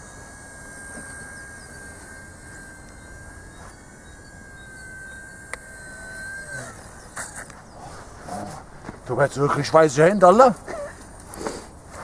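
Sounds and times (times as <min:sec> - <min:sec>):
rc helicopter whine: 0:00.0 - 0:12.0.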